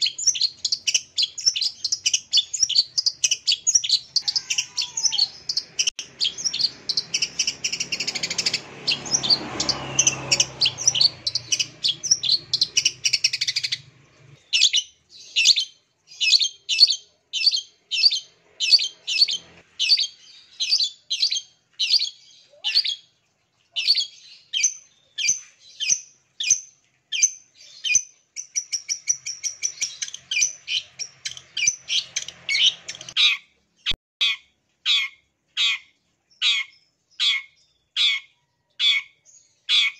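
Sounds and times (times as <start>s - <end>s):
bird singing warble and trills: 0.0s - 39.9s.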